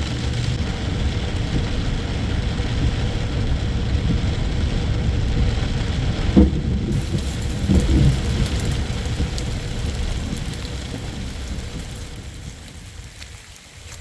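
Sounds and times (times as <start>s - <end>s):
thunder rumbling: 0.0s - 13.8s
raindrops ticking on surfaces: 0.0s - 14.0s
steady rain: 0.0s - 14.0s.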